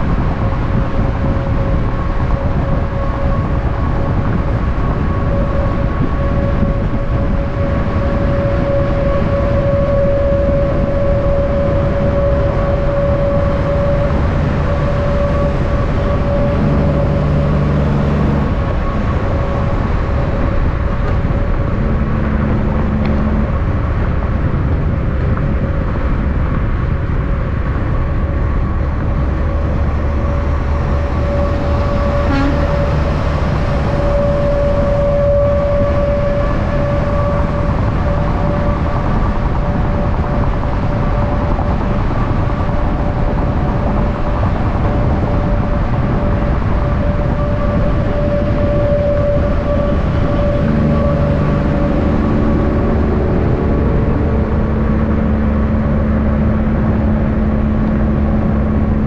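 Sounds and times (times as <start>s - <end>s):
low truck engine note: 0.0s - 59.0s
trucks tyre and wind rumble: 0.0s - 59.0s.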